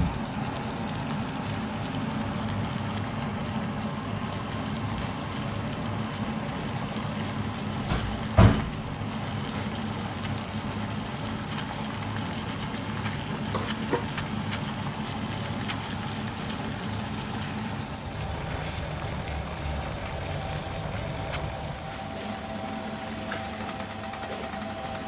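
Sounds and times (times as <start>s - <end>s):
low rumble of burning flames: 0.0s - 24.9s
water boiling and bubbling: 0.0s - 25.0s.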